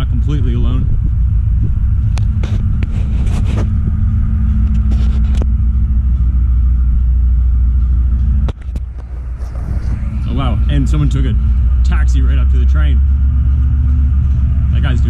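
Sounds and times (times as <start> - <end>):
diesel locomotives idling: 0.0 - 15.0.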